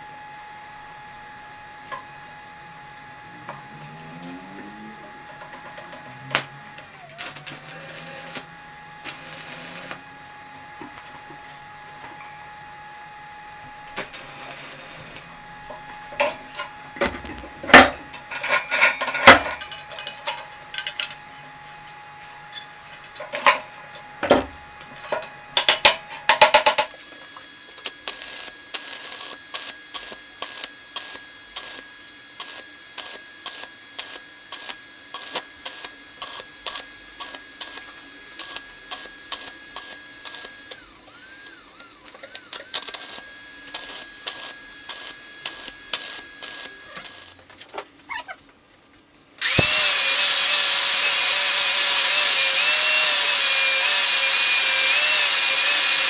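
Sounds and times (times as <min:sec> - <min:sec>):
angle grinder grinding steel pipe: 0:00.0 - 0:47.5, 0:49.4 - 0:56.0
electric welder crackling: 0:00.0 - 0:48.3, 0:49.4 - 0:56.0.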